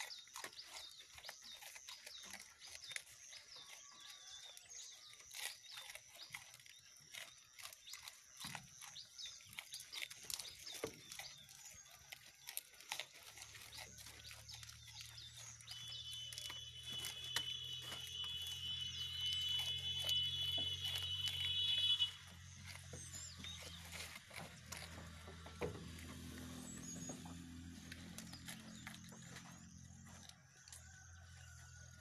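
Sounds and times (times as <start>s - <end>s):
goats crunching cabbage leaves: 0.0s - 32.0s.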